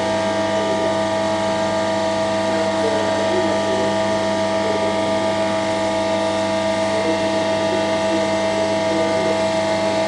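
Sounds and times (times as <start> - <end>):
hydraulic pump humming and whining: 0.0 - 10.0.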